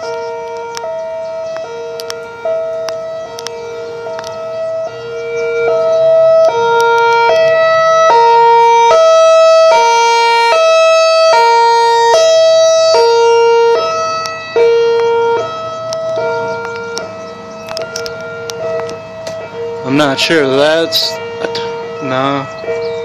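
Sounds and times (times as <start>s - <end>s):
two-tone hi-lo siren: 0.0s - 23.0s.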